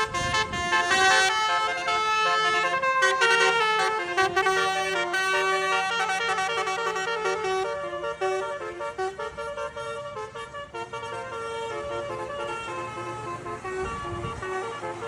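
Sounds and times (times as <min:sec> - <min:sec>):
tuned air horns playing tune: 0:00.0 - 0:15.0.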